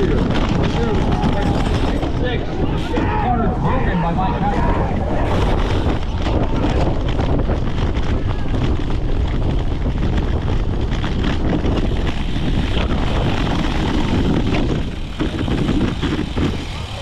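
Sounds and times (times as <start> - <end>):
bike rattling over rough ground: 0.0 - 17.0
wind buffeting microphone: 0.0 - 17.0.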